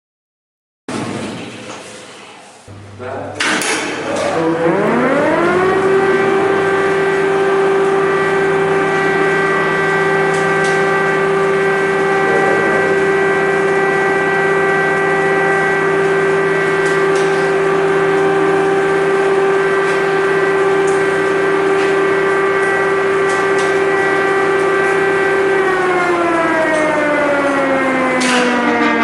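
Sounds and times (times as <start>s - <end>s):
air-raid siren steady tone: 4.1s - 29.0s.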